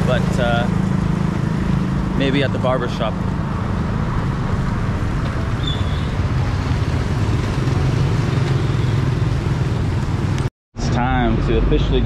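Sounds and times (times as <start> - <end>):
cars and motorbikes driving past: 0.0 - 12.0.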